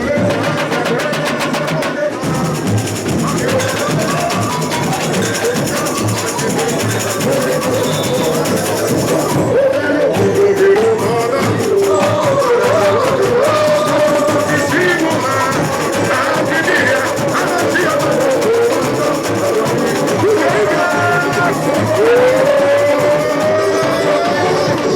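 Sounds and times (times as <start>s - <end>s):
samba drums playing: 0.0s - 24.9s
voices singing: 0.0s - 24.9s.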